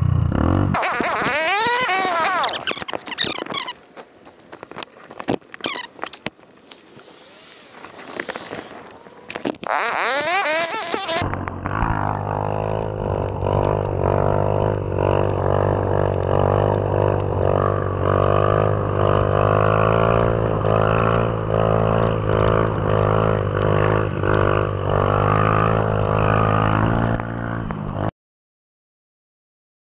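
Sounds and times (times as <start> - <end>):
motorcycle engine droning: 0.0 - 3.8, 7.1 - 28.1.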